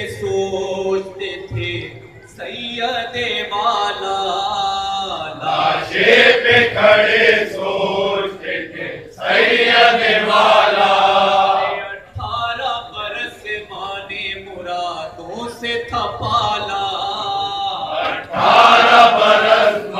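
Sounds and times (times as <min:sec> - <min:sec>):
men chanting a lament: 0:00.0 - 0:19.9.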